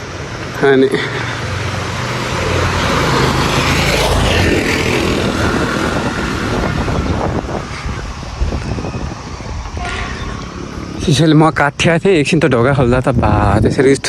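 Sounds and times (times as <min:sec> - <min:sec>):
vehicle passing by: 0:00.0 - 0:11.6.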